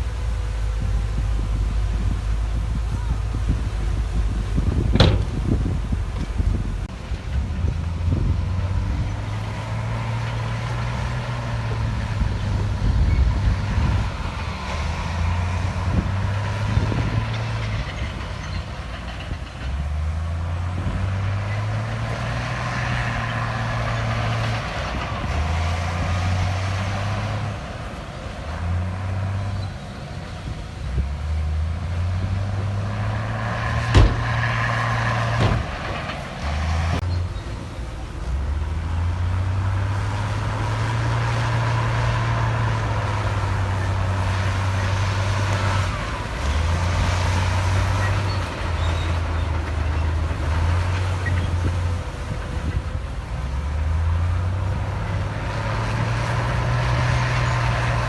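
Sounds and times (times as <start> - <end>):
heavy diesel engine working: 0.0 - 58.0.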